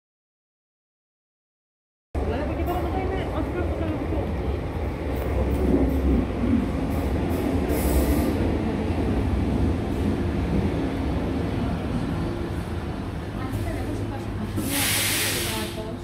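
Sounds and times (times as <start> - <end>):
train wheels rumbling on rails: 2.2 - 16.0.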